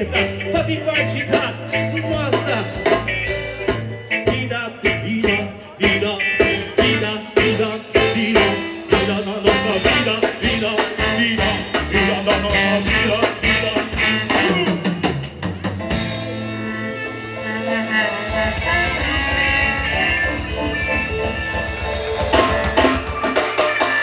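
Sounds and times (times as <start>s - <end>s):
electric bass line: 0.0s - 23.3s
drum kit: 0.0s - 24.0s
keyboard chords: 0.0s - 24.0s.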